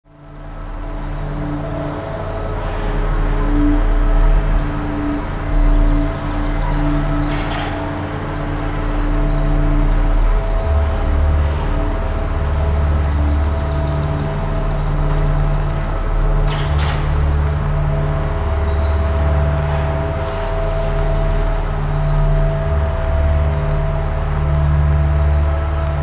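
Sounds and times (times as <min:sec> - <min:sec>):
deep low pulsing hum: 0:00.1 - 0:26.0
steady higher drone tones: 0:00.1 - 0:26.0.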